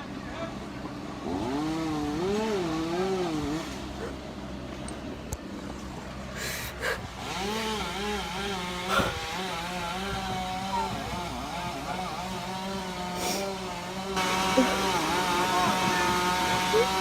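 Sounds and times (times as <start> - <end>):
chainsaw running: 0.5 - 17.0.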